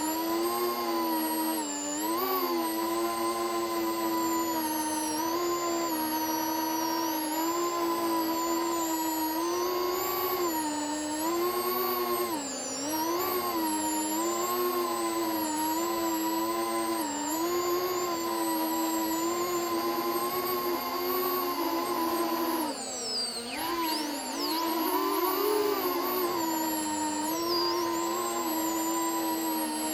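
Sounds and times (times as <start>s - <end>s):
quadcopter motors whining: 0.0s - 29.9s.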